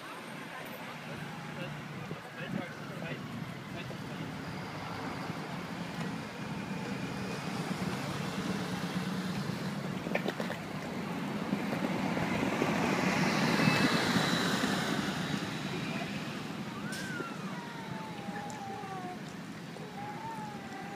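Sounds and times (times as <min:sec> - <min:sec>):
bus diesel engine: 0:00.0 - 0:20.9
street traffic: 0:00.0 - 0:20.9.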